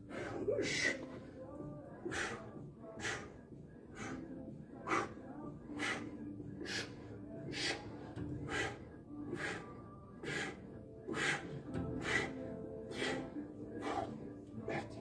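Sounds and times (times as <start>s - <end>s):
faint background music: 0.0s - 15.0s
man breathing hard: 0.0s - 15.0s.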